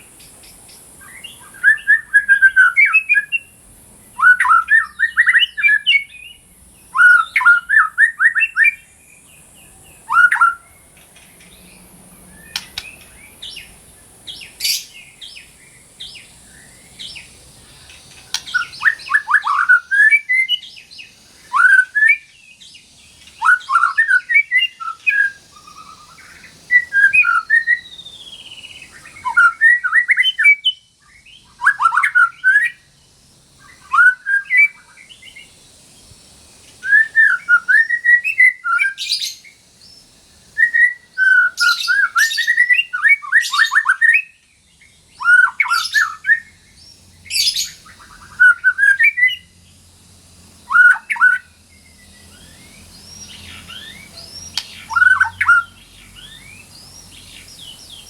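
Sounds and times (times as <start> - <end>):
bird singing whistled phrases: 1.0 - 10.8, 12.2 - 32.9, 33.6 - 35.5, 36.8 - 49.6, 50.6 - 58.0.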